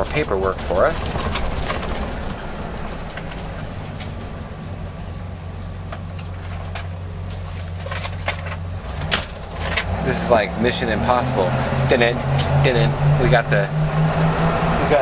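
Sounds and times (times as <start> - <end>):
engine and road drone: 0.0 - 15.0.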